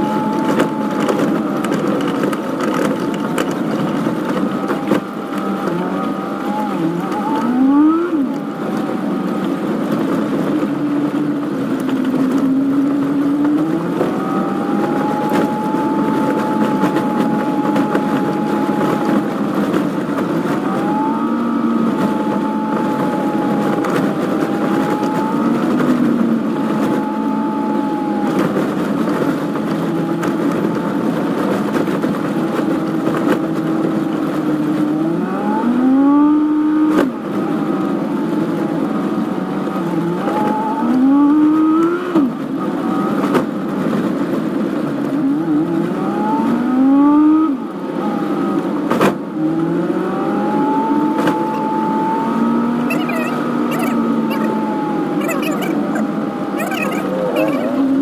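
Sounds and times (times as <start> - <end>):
sped-up car engine and road noise: 0.0 - 58.0.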